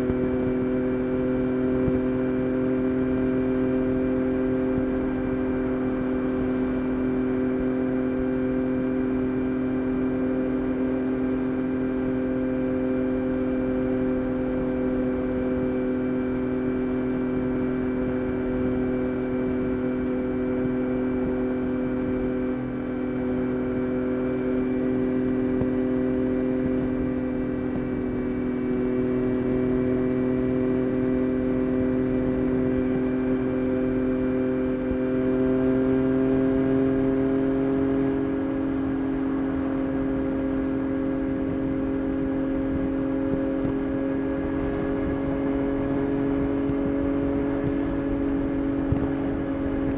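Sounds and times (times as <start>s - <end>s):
motorcycle engine running steadily: 0.0s - 49.9s.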